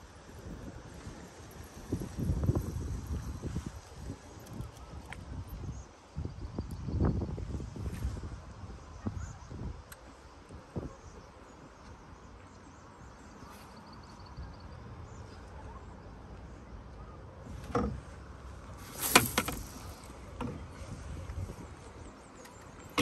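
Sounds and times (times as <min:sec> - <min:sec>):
wind and water rumble: 0:00.0 - 0:13.5, 0:14.7 - 0:23.0.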